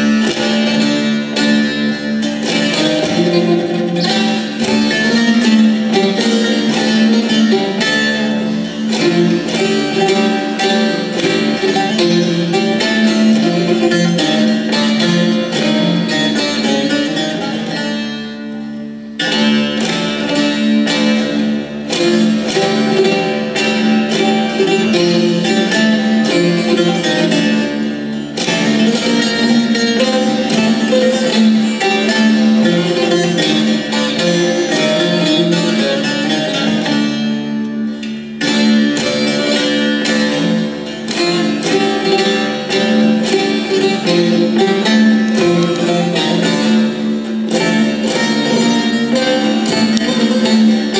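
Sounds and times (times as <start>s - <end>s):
long-necked lute picked notes: 0.0s - 50.9s.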